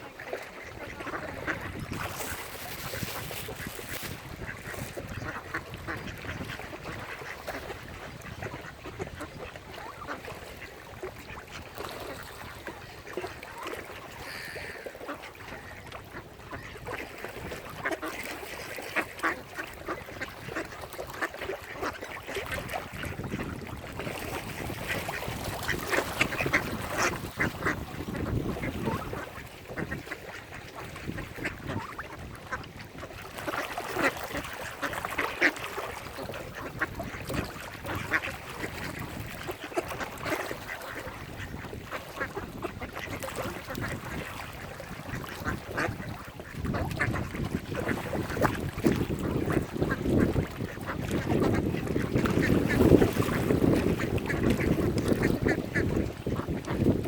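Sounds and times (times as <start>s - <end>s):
ducks quacking: 0.0s - 57.0s.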